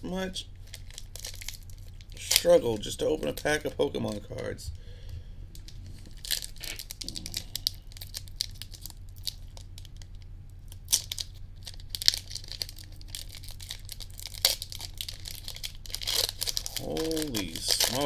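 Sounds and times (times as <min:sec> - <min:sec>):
wrapper crinkling and tearing: 0:00.6 - 0:04.3, 0:05.6 - 0:18.0.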